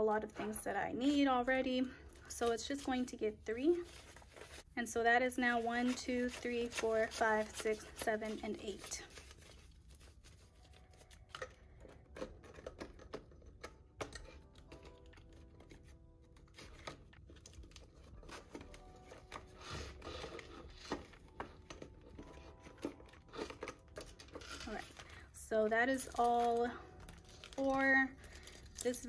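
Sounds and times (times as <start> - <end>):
faint background music: 0.0 - 29.0
paper bills rustling: 2.2 - 4.7, 5.4 - 12.9, 14.2 - 29.0.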